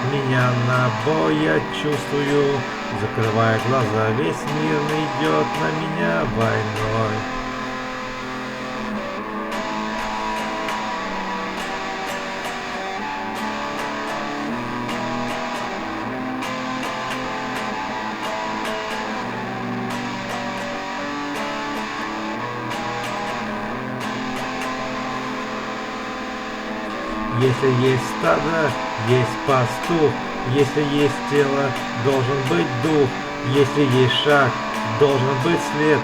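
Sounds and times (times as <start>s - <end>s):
rock guitar playing: 0.0s - 36.0s.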